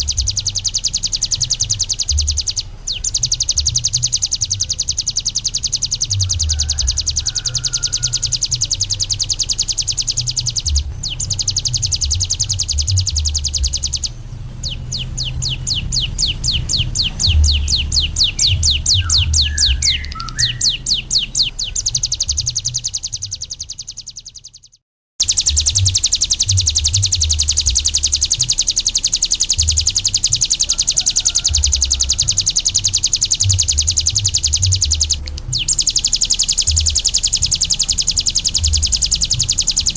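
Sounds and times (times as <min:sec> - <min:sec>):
bird singing high-pitched trill: 0:00.0 - 0:39.9.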